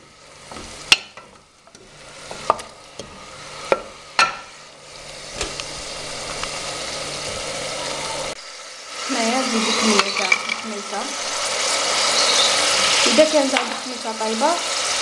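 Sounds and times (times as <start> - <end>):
chicken and onion sizzling in oil: 0.0 - 15.0.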